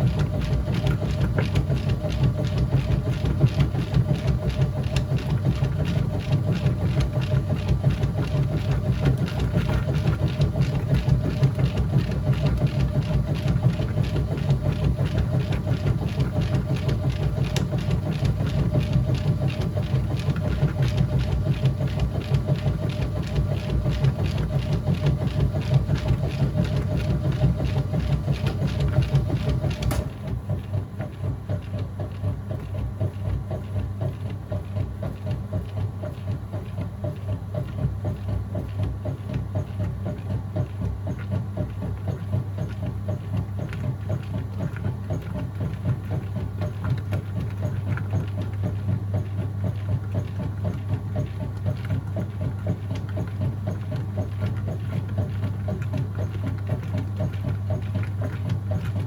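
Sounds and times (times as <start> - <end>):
washing machine churning: 0.0 - 59.0.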